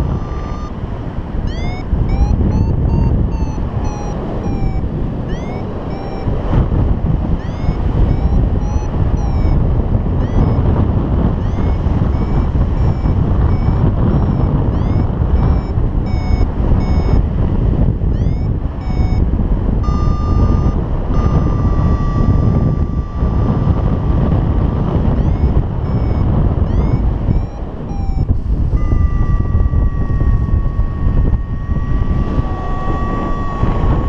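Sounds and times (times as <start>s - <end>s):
steady falling tone: 0.0s - 0.8s, 1.4s - 6.5s, 7.4s - 10.8s, 11.4s - 17.2s, 18.1s - 19.2s, 19.8s - 34.0s
variometer beeping: 0.0s - 34.0s
wind rumble on microphone: 0.0s - 34.0s.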